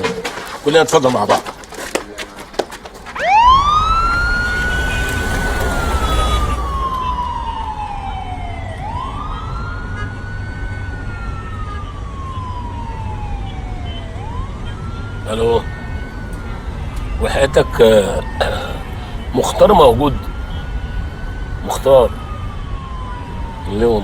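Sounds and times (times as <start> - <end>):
police siren wailing: 3.1 - 24.0.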